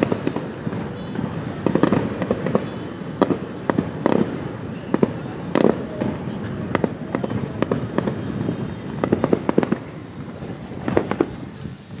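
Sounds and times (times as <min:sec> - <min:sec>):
fireworks cracks and bangs: 0:00.0 - 0:12.0.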